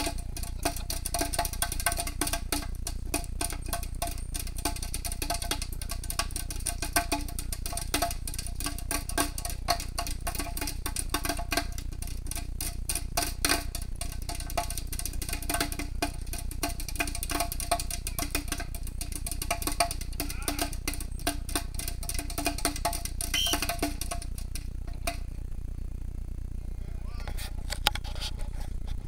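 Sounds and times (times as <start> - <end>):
hammers driving nails into wood: 0.0 - 25.3.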